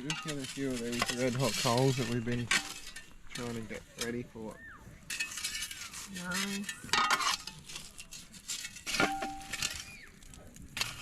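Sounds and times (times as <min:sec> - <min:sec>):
metal clinking and scraping: 0:00.0 - 0:04.3, 0:05.0 - 0:11.0.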